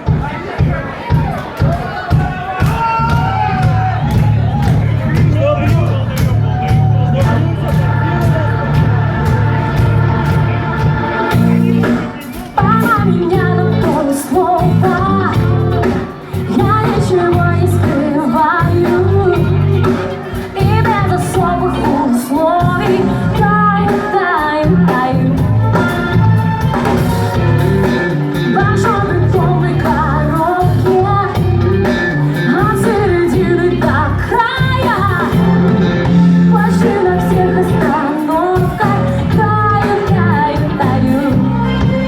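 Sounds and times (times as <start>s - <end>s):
live band playing pop-rock: 0.0s - 42.0s
person singing: 6.7s - 26.2s, 27.3s - 42.0s.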